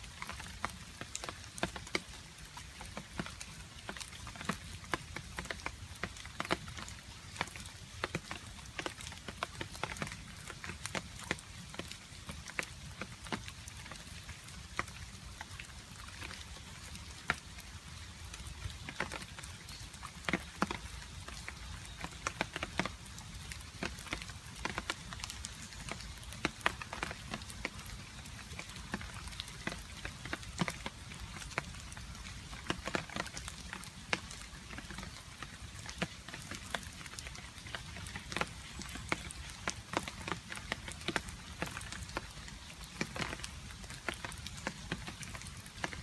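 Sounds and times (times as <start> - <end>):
rain pattering: 0.0 - 46.0.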